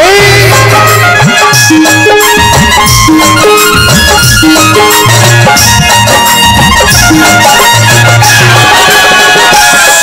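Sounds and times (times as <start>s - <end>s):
dholak drum: 0.0s - 10.0s
melody of held notes: 0.1s - 10.0s
electronic drum pad: 1.3s - 10.0s.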